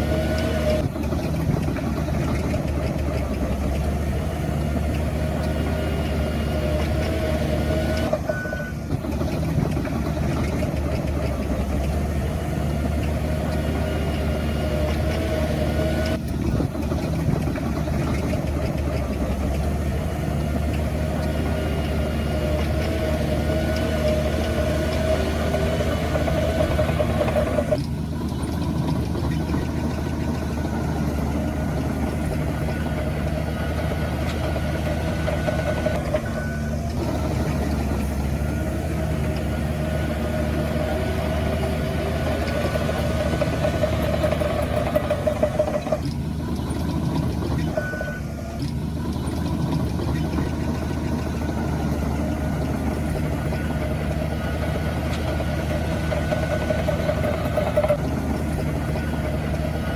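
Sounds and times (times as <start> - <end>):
continuous whine: 0.0 - 59.9
heavy machinery diesel engines: 0.0 - 59.9.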